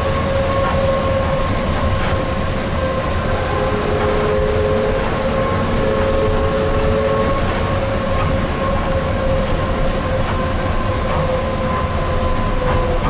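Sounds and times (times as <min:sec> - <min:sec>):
low rumble of tyres: 0:00.0 - 0:13.0.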